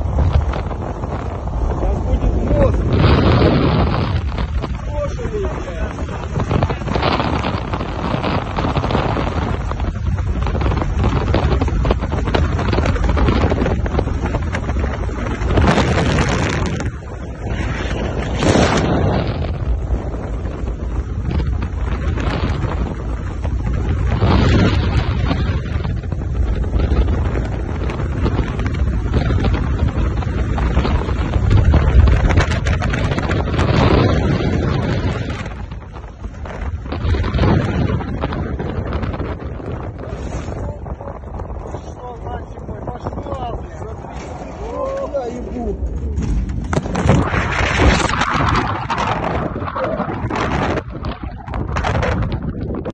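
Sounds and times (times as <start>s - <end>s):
moving vehicle rumble: 0.0s - 52.9s
wind buffeting microphone: 0.0s - 52.9s.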